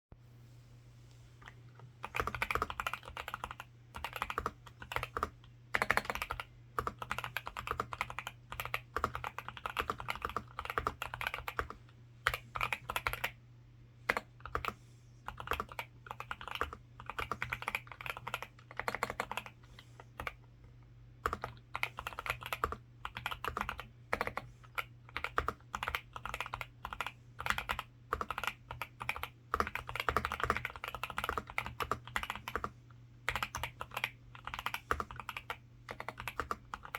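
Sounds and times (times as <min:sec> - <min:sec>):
faint low hum: 0:00.1 - 0:36.9
typing on mechanical keyboard: 0:02.0 - 0:13.4, 0:14.1 - 0:20.4, 0:21.2 - 0:32.7, 0:33.3 - 0:36.9.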